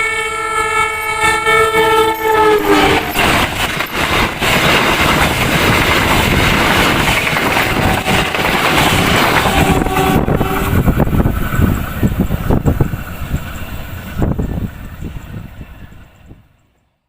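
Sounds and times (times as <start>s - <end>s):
train rushing past on rails: 0.0s - 17.0s
train wheel clacks: 1.0s - 14.8s.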